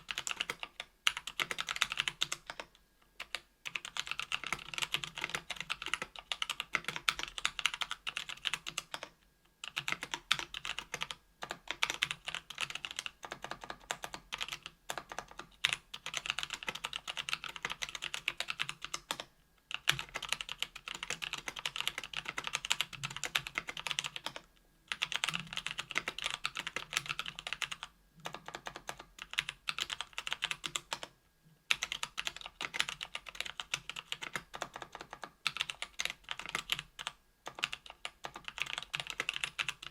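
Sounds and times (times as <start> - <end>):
mechanical keyboard typing: 0.0 - 31.1, 31.7 - 39.9.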